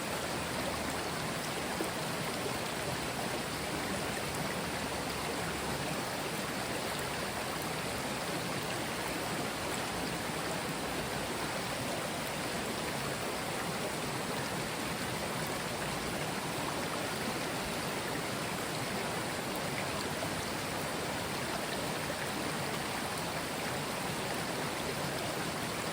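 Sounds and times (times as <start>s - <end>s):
stream flowing over stones: 0.0s - 25.9s.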